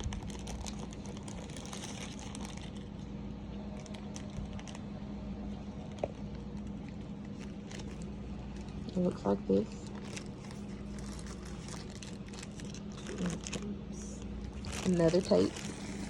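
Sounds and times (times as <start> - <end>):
plastic packaging crinkling: 0.0 - 16.0
steady low hum: 0.0 - 16.0.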